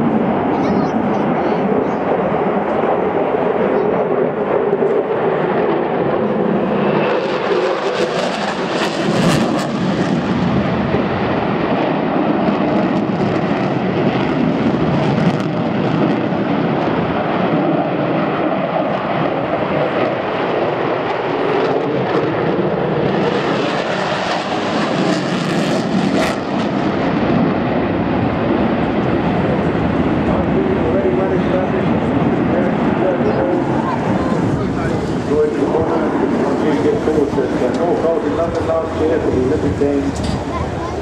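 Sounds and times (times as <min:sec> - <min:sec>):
aircraft engine in flight: 0:00.0 - 0:41.0.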